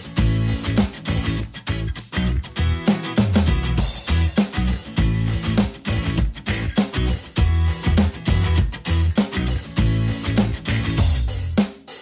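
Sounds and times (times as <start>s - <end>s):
background music with bass and guitar: 0.0s - 11.6s.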